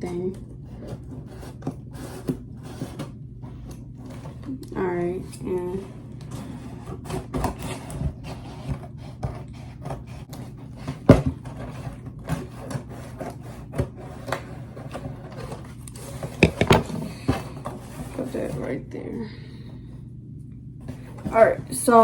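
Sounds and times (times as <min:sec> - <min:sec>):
cardboard scraping and rasping: 0:00.0 - 0:18.6.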